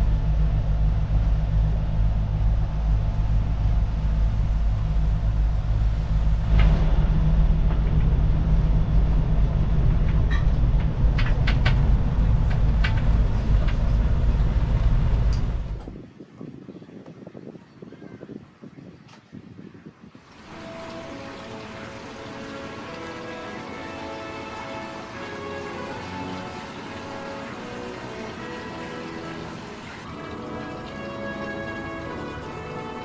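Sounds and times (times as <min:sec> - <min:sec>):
boat engine low rumble: 0:00.0 - 0:17.0, 0:20.2 - 0:33.0.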